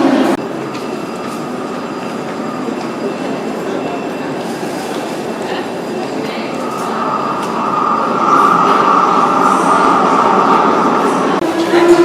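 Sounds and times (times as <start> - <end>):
wheels rumbling on rail: 0.0 - 12.0
high-pitched train squeal: 0.8 - 12.0.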